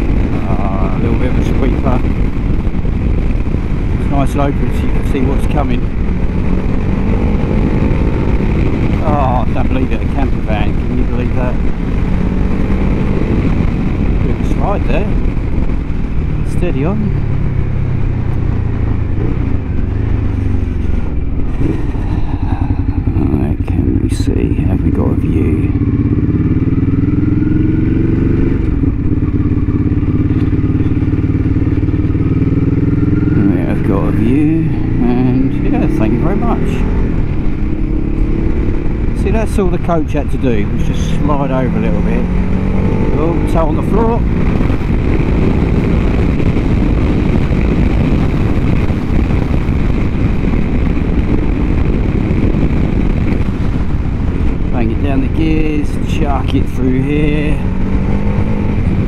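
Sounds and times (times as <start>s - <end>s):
motorcycle engine cruising: 0.0s - 59.0s
wind rush on microphone: 0.0s - 59.0s.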